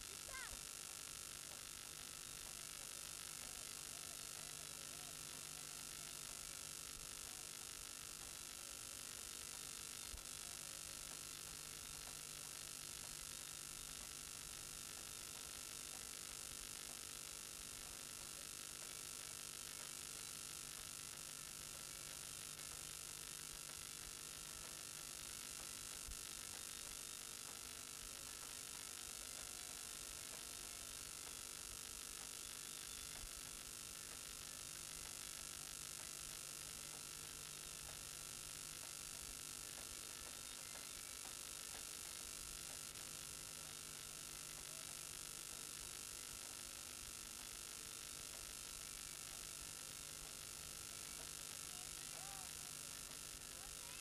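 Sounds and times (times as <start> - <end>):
low electrical hum: 0.0 - 54.0
recording hiss: 0.0 - 54.0.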